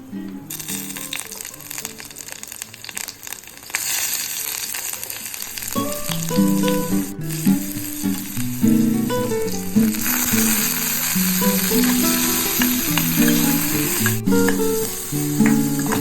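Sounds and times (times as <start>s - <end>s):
plucked-string background music: 0.0s - 3.8s, 5.5s - 16.0s
food sizzling in hot oil: 0.5s - 16.0s.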